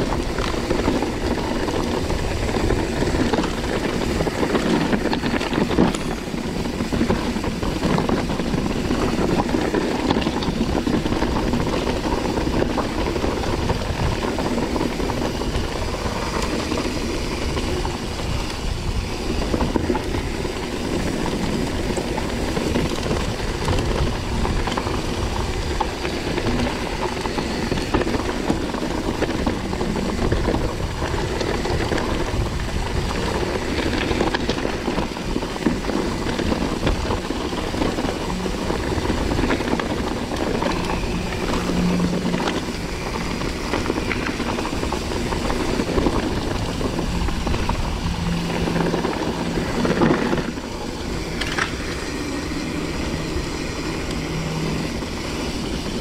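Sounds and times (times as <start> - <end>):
bike rattling and clicking: 0.0 - 56.0
tyres rumbling on gravel: 0.0 - 56.0.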